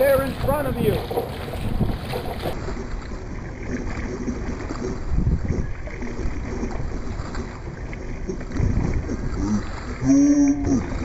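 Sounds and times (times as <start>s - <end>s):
water sloshing from paddles: 0.0s - 11.0s
wind rumble on microphone: 0.0s - 11.0s.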